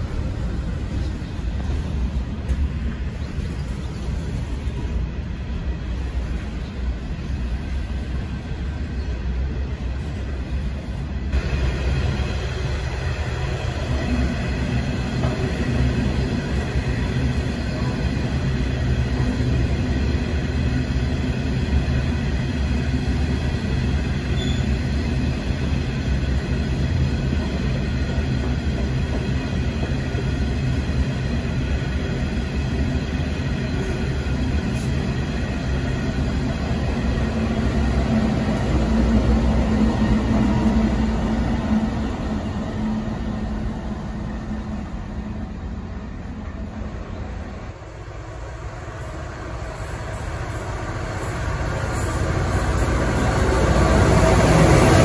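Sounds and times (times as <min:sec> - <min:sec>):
diesel locomotive drone: 0:00.0 - 0:55.0
train wheels rumbling on rails: 0:00.0 - 0:55.0.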